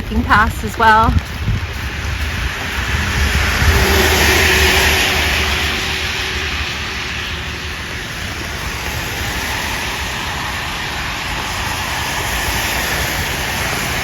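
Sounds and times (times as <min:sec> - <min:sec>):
car tyres hissing on wet road: 0:01.2 - 0:14.0.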